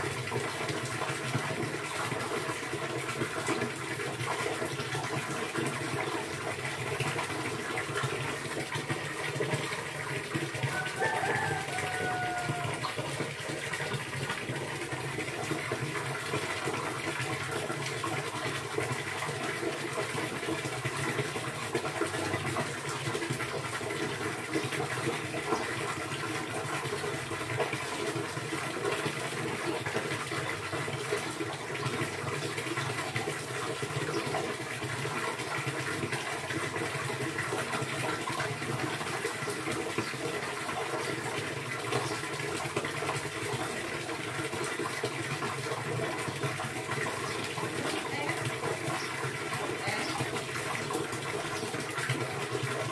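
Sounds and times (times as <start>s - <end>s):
water running and splashing: 0.0s - 52.9s.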